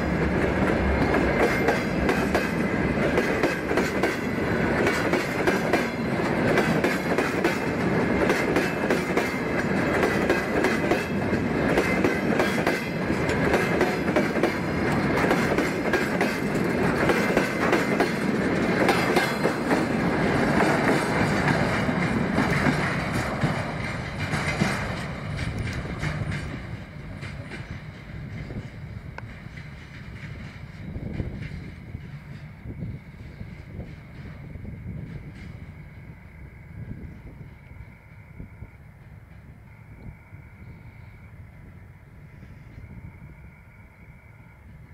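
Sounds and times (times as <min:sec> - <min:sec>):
train wheels clicking over rail joints: 0:00.0 - 0:40.8.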